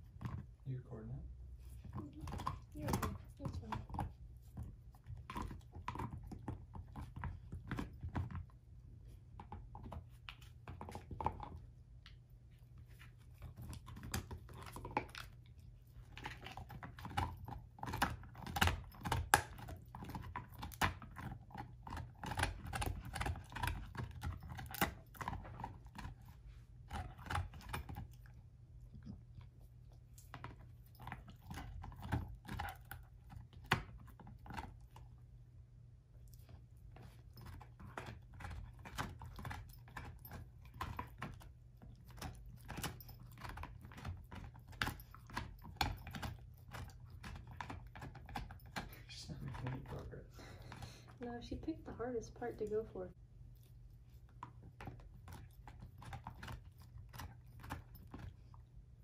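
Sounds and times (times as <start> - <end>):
dog chewing and crunching bone: 0.0 - 59.0.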